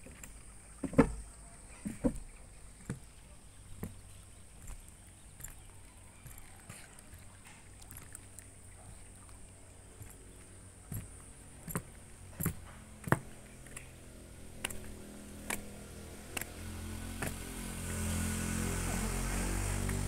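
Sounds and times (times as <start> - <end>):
footsteps on stone paving: 0.0 - 17.4.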